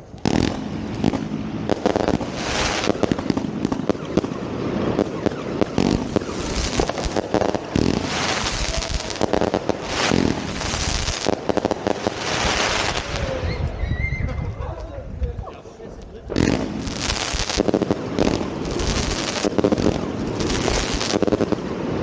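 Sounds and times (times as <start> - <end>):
fireworks hissing bursts: 0.0 - 13.4, 16.3 - 22.0
fireworks bangs and crackling: 0.0 - 13.8, 16.3 - 22.0.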